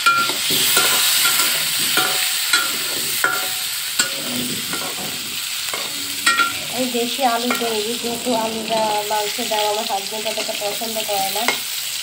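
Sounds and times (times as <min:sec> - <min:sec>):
spatula scraping and knocking pan: 0:00.0 - 0:11.6
potatoes sizzling in oil: 0:00.0 - 0:12.0.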